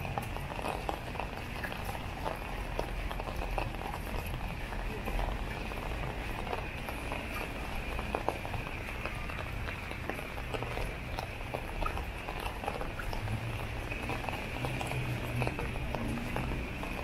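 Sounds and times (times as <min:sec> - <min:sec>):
footsteps on wet pavement: 0:00.0 - 0:17.0
rain drops on umbrella: 0:00.0 - 0:17.0.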